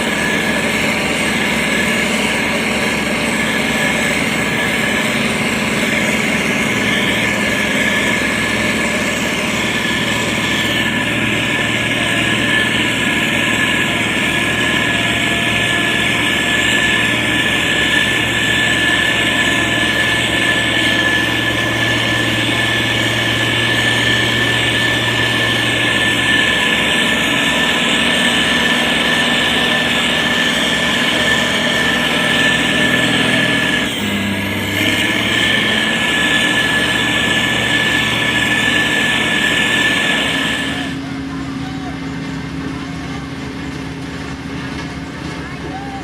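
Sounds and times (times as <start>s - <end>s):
diesel engine running: 0.0s - 46.0s
high steady whine: 0.0s - 46.0s.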